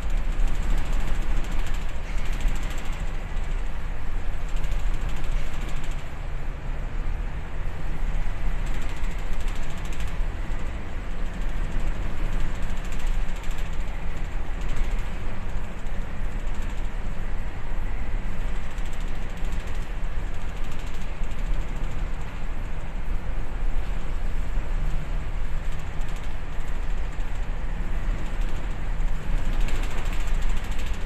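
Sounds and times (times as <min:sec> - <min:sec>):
ship engine and hull rumble: 0:00.0 - 0:31.0.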